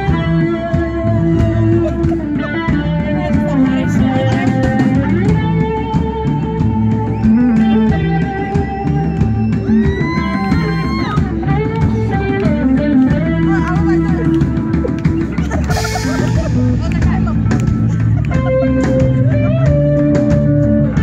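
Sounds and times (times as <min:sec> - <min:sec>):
drum kit: 0:00.0 - 0:21.0
electric bass: 0:00.0 - 0:21.0
electric guitar: 0:00.0 - 0:21.0.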